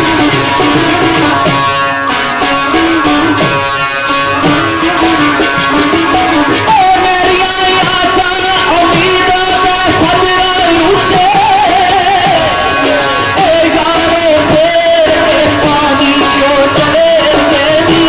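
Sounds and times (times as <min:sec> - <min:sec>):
drum rhythm: 0:00.0 - 0:18.0
harmonium: 0:00.0 - 0:18.0
plucked banjos melody: 0:00.0 - 0:18.0.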